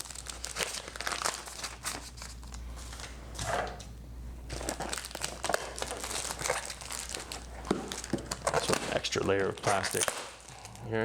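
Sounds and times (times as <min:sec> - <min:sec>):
plastic packaging crinkling: 0:00.0 - 0:03.8, 0:04.5 - 0:10.8.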